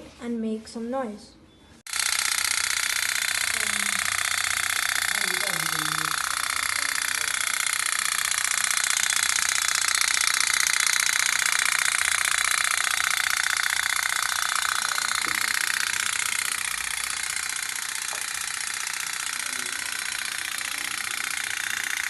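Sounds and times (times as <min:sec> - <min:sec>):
toy steam boat putt-putt ticking: 0:01.9 - 0:22.0.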